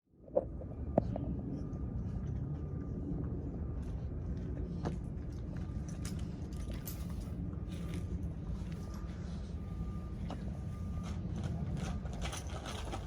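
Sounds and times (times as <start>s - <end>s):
faint steady hum: 0.1s - 13.0s
engine running: 0.3s - 13.0s.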